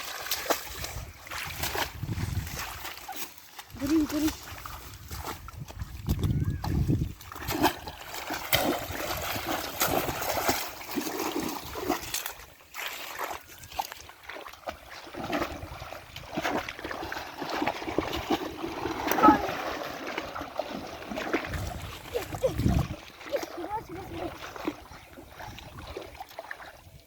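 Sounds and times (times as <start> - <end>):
water splashing: 0.0 - 27.0.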